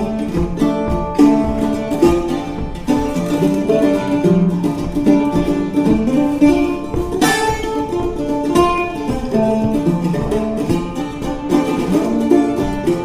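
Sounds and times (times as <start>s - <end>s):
plucked mandola melody: 0.0s - 13.0s
strummed mandola chord: 0.0s - 13.0s.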